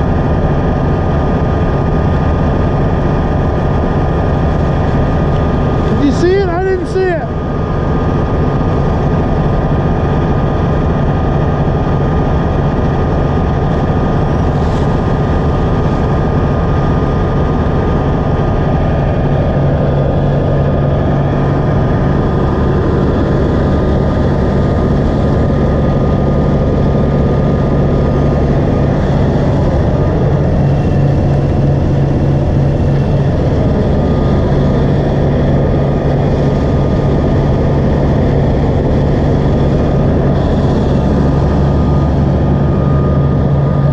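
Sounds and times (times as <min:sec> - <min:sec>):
large engine running steadily: 0:00.0 - 0:43.9.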